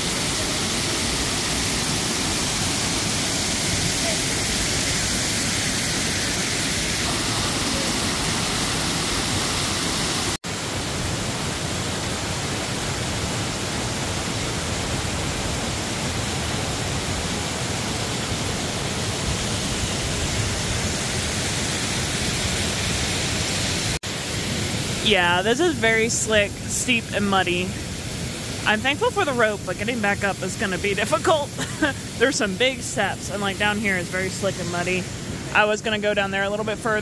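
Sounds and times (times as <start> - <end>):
waterfall rushing: 0.0 - 35.6.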